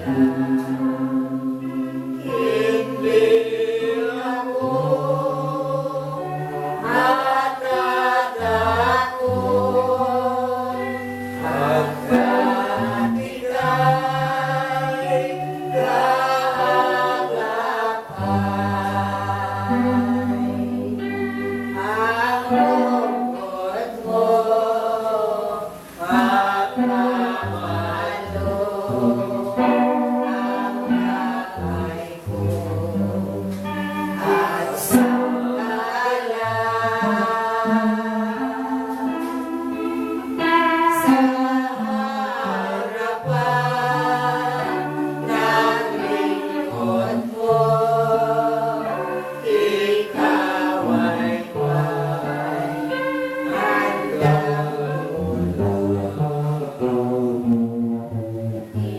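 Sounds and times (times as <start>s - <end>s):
group singing praise chant: 0.0s - 57.9s.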